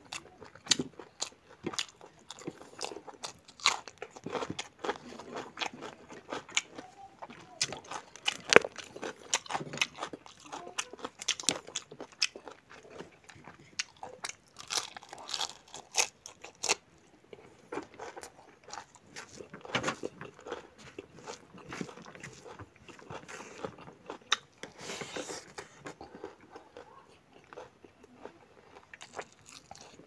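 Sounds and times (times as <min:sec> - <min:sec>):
person chewing food: 0:00.0 - 0:30.0.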